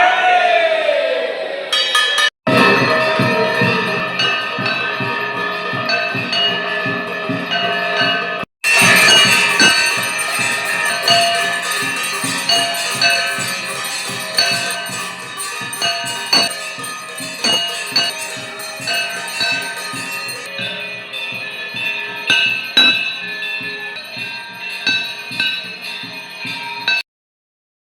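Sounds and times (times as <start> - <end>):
temple bells ringing: 1.7 - 6.7, 8.6 - 27.0.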